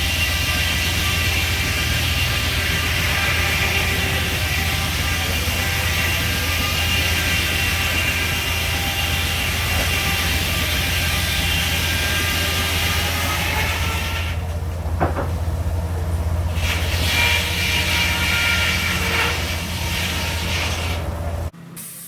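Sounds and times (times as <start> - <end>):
sawmill blade cutting log: 0.0 - 15.8, 16.4 - 21.5.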